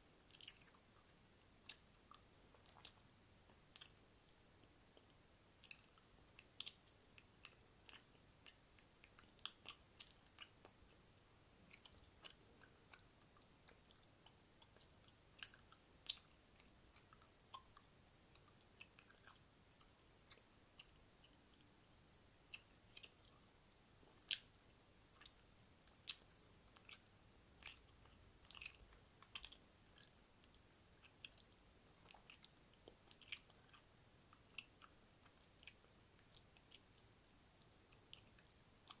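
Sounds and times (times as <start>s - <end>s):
wet mouth clicks and smacks: 0.3s - 23.4s, 24.2s - 37.1s.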